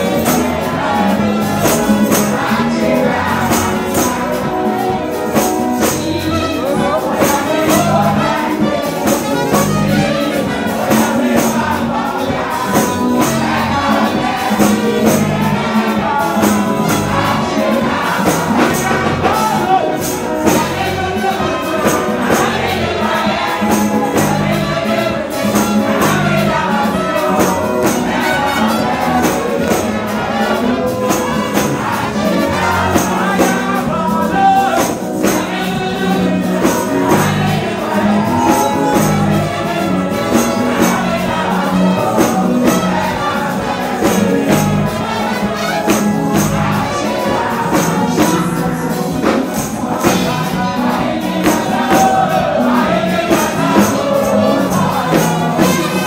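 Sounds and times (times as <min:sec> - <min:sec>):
gospel praise music: 0:00.0 - 0:56.0
jingling percussion: 0:00.0 - 0:56.0
singing voices: 0:00.0 - 0:56.0.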